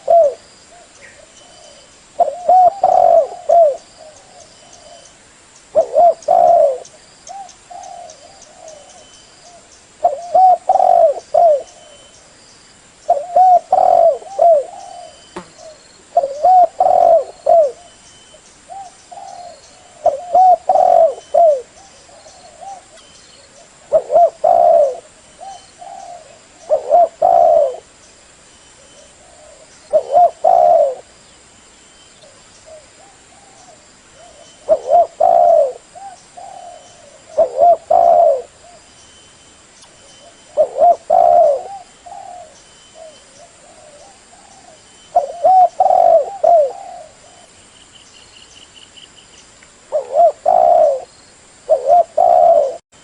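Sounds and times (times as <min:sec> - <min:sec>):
dove cooing: 0:00.0 - 0:05.1, 0:05.7 - 0:12.2, 0:13.1 - 0:18.0, 0:18.7 - 0:27.9, 0:28.8 - 0:31.1, 0:32.2 - 0:38.9, 0:40.2 - 0:47.5, 0:49.9 - 0:51.1, 0:51.7 - 0:52.8.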